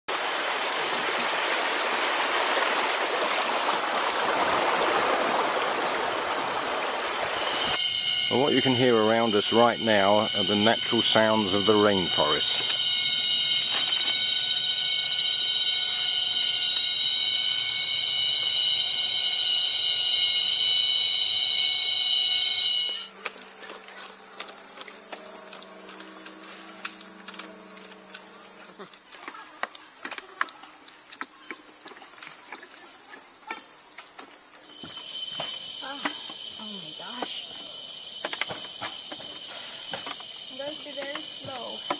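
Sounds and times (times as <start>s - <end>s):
insect chorus: 0.2s - 41.9s.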